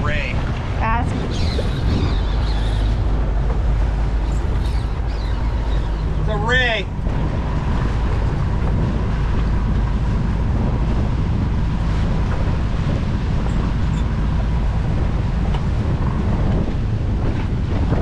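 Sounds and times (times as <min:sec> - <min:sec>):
water noise: 0:00.0 - 0:18.0
wind buffeting microphone: 0:00.0 - 0:18.0.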